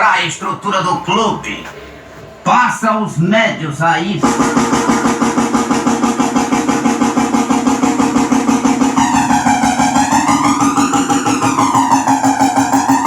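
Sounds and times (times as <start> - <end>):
fast-pulsing buzz with phasing filter: 1.9 - 13.0.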